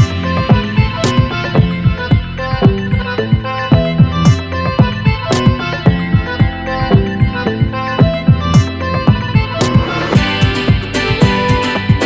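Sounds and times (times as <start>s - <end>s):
electronic music with beat: 0.0s - 12.0s
punchy bass drum hits: 0.0s - 12.0s
sustained synth notes: 0.0s - 12.0s.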